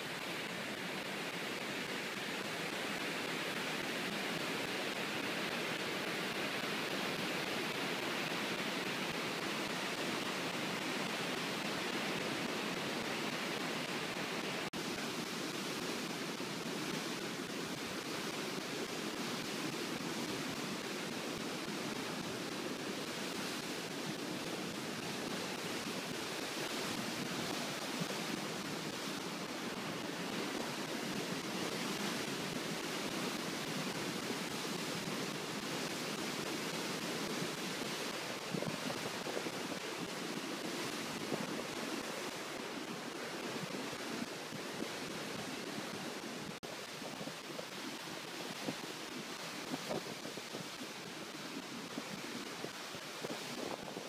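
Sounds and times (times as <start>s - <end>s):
rushing floodwater: 0.0s - 54.0s.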